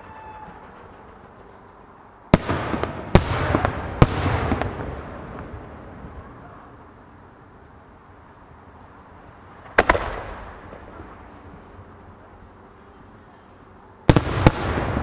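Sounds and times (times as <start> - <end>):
firework crackles: 0.0 - 12.7, 14.0 - 15.0.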